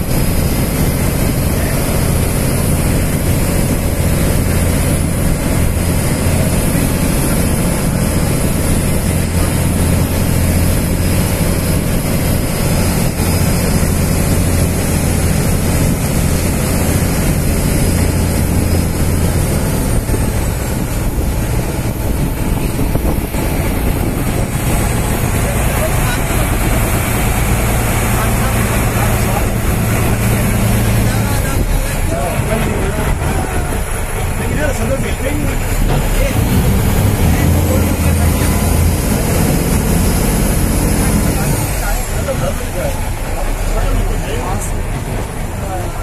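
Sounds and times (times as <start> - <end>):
boat engine droning: 0.0 - 46.0
water rushing along hull: 0.0 - 46.0.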